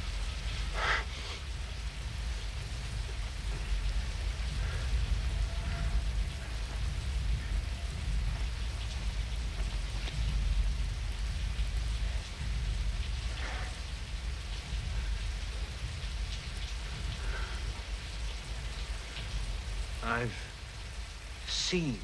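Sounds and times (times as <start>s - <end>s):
deep low rumble: 0.0s - 21.4s
rain falling on a rooftop: 0.0s - 22.0s.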